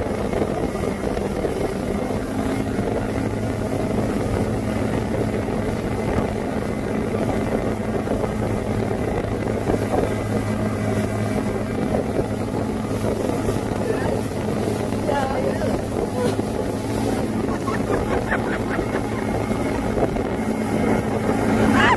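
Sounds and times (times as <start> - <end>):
boat wake rushing: 0.0 - 21.9
motorboat engine drone: 0.0 - 21.9.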